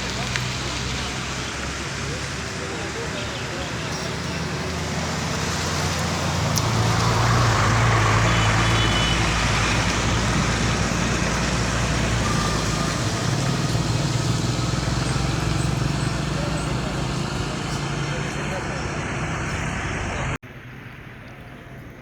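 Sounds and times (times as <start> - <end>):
heavy vehicle engine running: 0.0 - 22.0
road traffic noise: 0.0 - 22.0.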